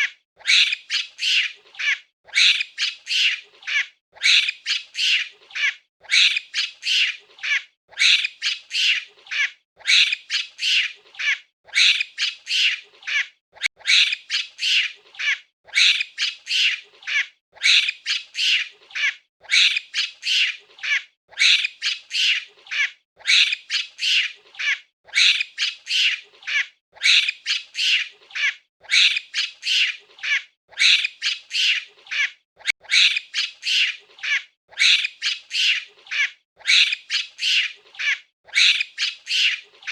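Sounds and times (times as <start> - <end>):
monkey calling: 0.0 - 39.9.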